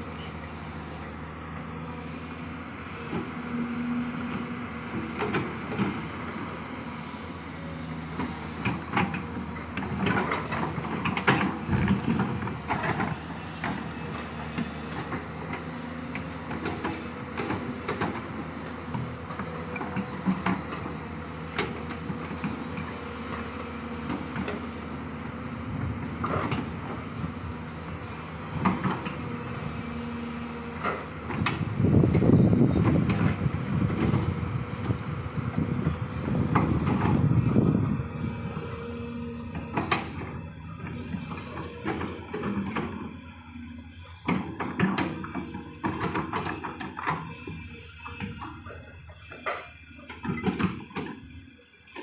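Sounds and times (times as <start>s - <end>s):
excavator diesel engine running: 0.0s - 52.0s
excavator digging knocks and clanks: 0.0s - 52.0s
faint hydraulic whine: 0.0s - 52.0s.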